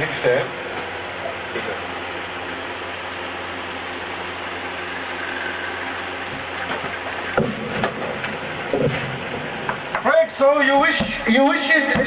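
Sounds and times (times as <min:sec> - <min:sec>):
electric fan motor humming: 0:00.0 - 0:12.0.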